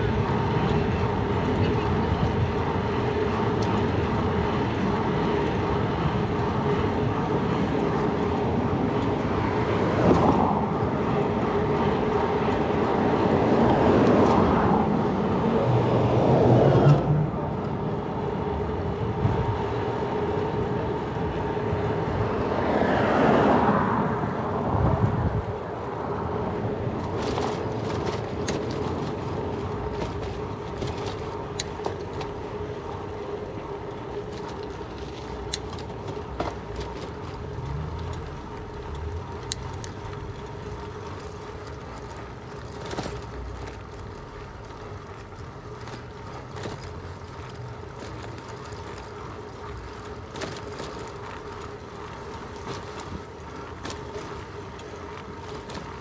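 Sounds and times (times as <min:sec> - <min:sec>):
bicycle tyre and wind rush: 0:00.0 - 0:56.0.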